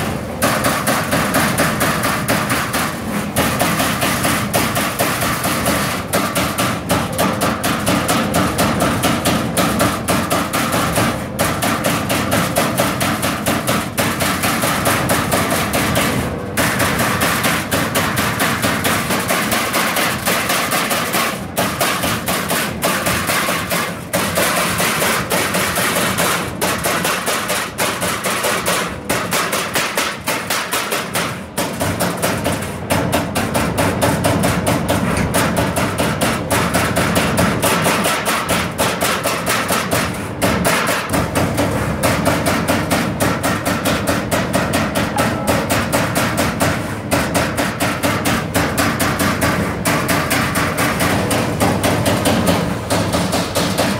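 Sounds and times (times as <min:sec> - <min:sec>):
punch press punching sheet metal: 0:00.0 - 0:53.9.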